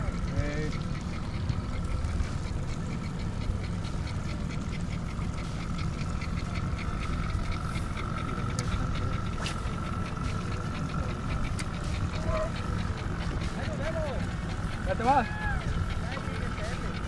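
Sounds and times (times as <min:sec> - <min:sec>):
fishing reel ticking: 0:00.0 - 0:17.0
low engine hum: 0:00.0 - 0:17.0.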